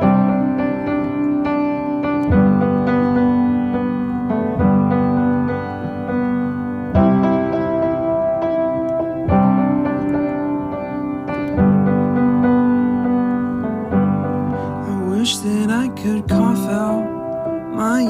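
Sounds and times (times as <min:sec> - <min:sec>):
piano playing chords: 0:00.0 - 0:18.0.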